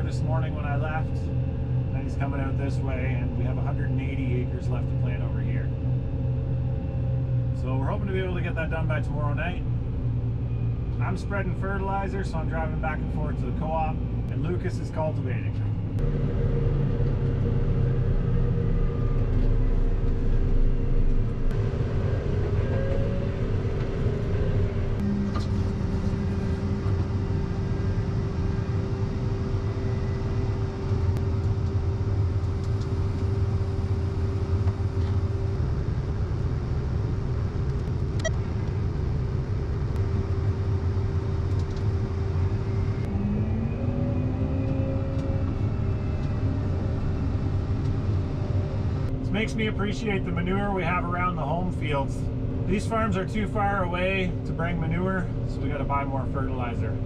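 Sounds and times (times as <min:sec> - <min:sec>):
steady whine: 0:00.0 - 0:57.0
vehicle engine running: 0:00.0 - 0:57.0.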